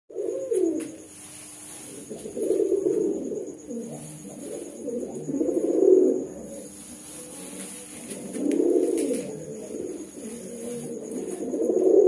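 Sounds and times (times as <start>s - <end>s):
pigeons cooing: 0.1s - 12.0s.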